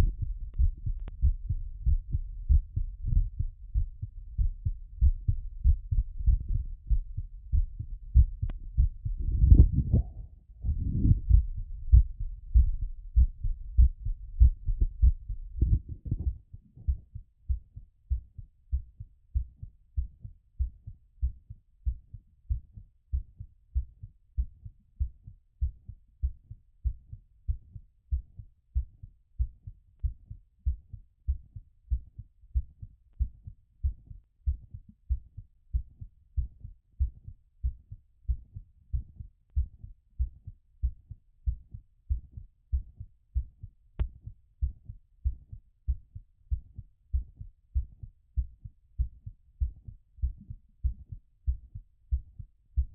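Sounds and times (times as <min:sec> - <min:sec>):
heartbeat through a stethoscope: 0:00.0 - 0:52.9.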